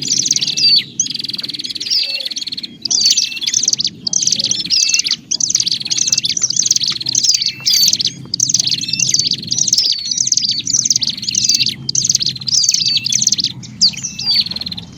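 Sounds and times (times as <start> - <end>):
birds chirping: 0.0 - 14.9
low background rumble: 0.0 - 14.9.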